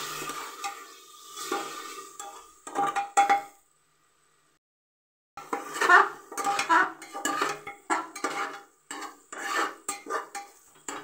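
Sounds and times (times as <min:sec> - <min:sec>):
metal spatula scraping pot: 0:00.0 - 0:03.5, 0:05.4 - 0:11.0
onions frying in oil: 0:00.0 - 0:04.6, 0:05.4 - 0:11.0.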